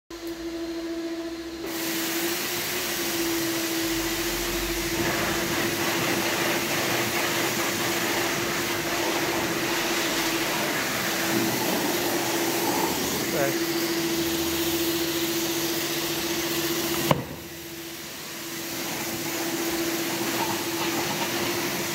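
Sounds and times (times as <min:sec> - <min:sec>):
pressure washer hum: 0:00.1 - 0:21.9
water jet hissing on plastic: 0:01.6 - 0:21.9.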